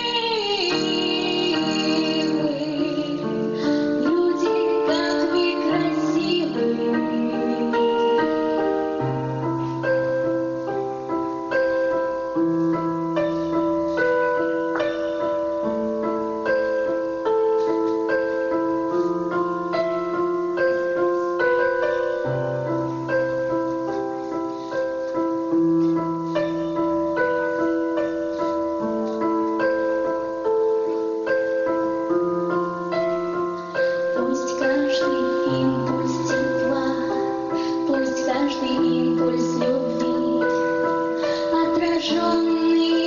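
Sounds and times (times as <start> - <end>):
piano accompaniment: 0.0 - 43.0.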